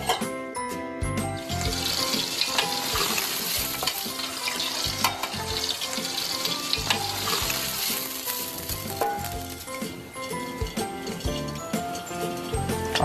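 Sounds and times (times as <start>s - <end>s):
meat sizzling in oil: 1.3s - 13.0s.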